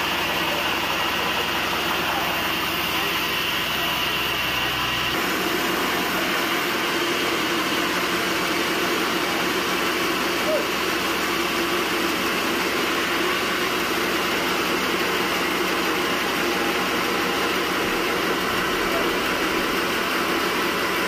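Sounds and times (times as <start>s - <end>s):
band sawmill running: 0.0s - 21.0s.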